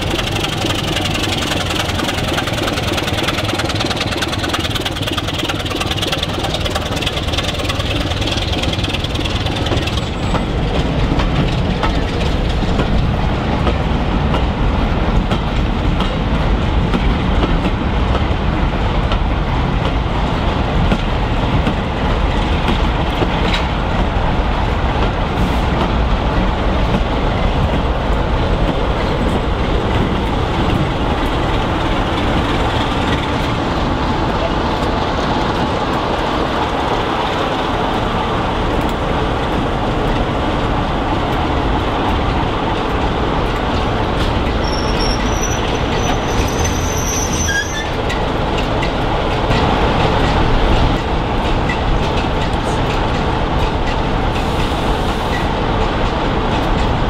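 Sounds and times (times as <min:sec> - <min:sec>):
diesel locomotive engine working hard: 0:00.0 - 0:57.0
train coaches clattering on rails: 0:00.0 - 0:57.0.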